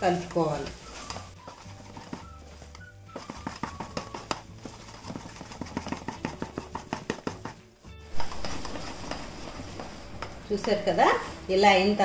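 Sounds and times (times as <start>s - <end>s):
spatula stirring in a pan: 0.0s - 11.5s
background music: 0.0s - 12.0s.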